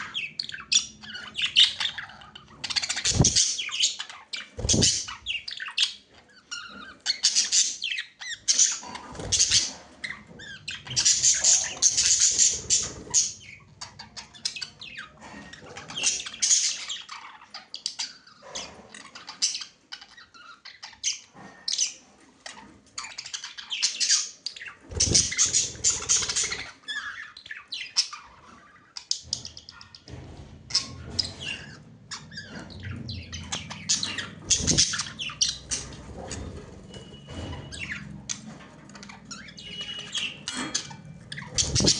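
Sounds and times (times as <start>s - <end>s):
budgerigars chattering and chirping: 0.0s - 41.9s.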